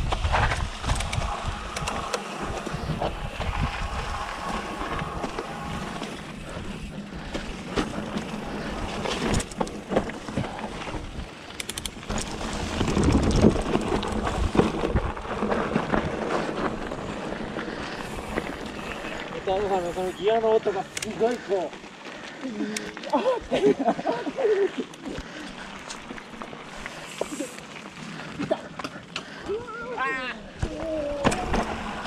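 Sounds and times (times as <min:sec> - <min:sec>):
bike chain and frame rattling: 0:00.0 - 0:32.0
tyres rumbling on dirt: 0:00.0 - 0:32.0
wind: 0:00.0 - 0:32.0.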